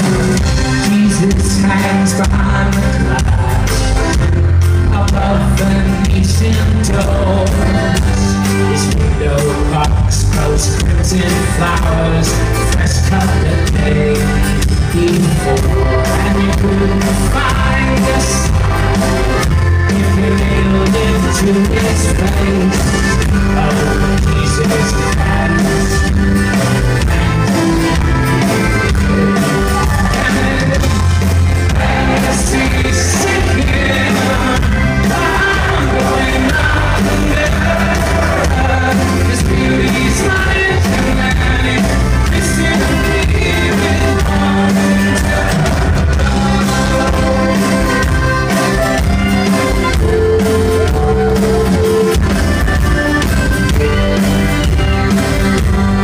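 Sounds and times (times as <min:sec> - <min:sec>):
accordion: 0:00.0 - 0:56.0
acoustic guitar: 0:00.0 - 0:56.0
drums steady beat: 0:00.0 - 0:56.0.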